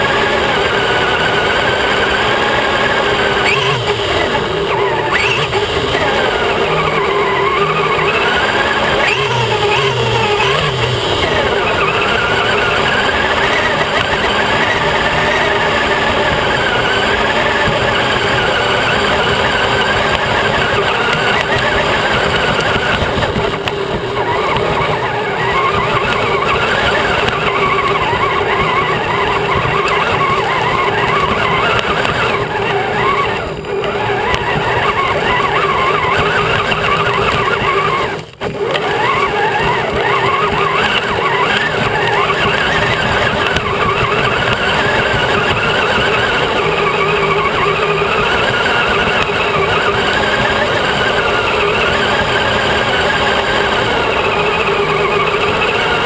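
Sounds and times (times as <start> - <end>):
electric motor and gears whining: 0.0 - 56.0.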